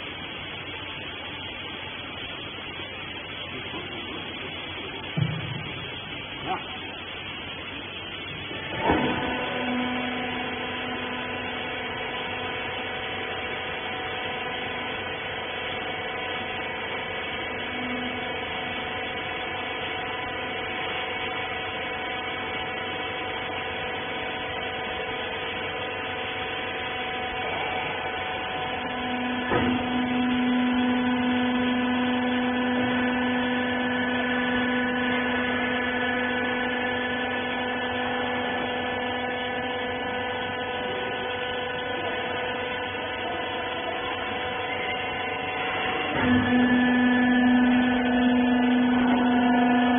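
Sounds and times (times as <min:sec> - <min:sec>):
hydraulic unit humming and whining: 0:00.0 - 0:49.9
lower hum of press under load: 0:00.0 - 0:49.9.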